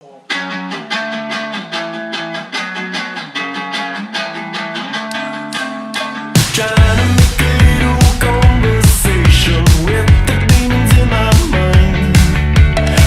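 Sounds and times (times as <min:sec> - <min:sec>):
solo guitar chords: 0:00.0 - 0:13.0.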